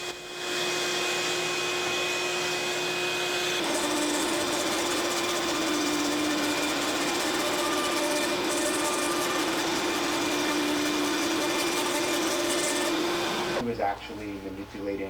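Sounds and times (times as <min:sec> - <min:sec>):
router spindle whining: 0:00.0 - 0:13.6.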